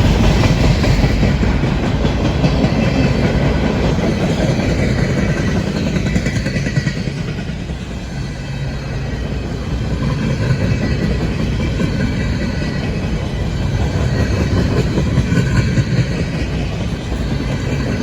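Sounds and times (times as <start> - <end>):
train wheels rumbling on rails: 0.0 - 18.0
wheels clacking over rail joints: 0.0 - 18.0.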